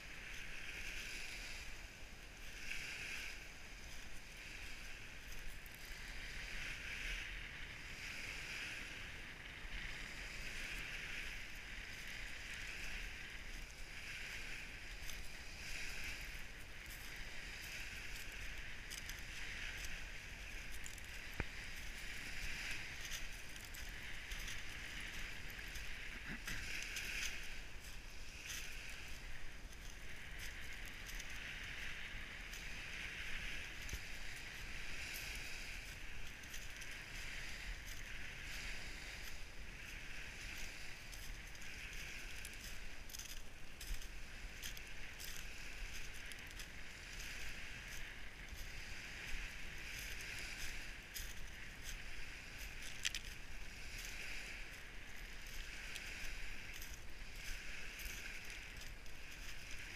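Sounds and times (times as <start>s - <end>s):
waves washing on pebble beach: 0.0s - 59.9s.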